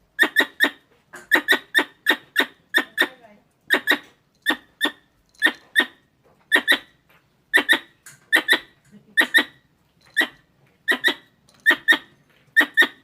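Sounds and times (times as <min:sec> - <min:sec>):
squirrel chirping: 0:00.2 - 0:13.0.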